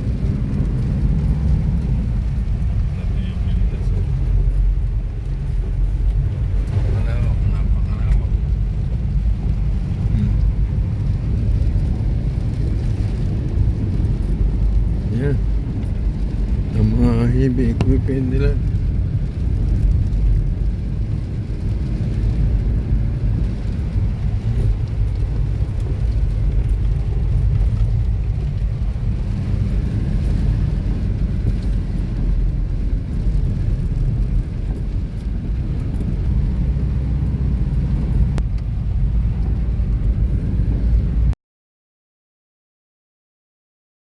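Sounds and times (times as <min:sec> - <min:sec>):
vehicle engine and road noise: 0:00.0 - 0:41.4.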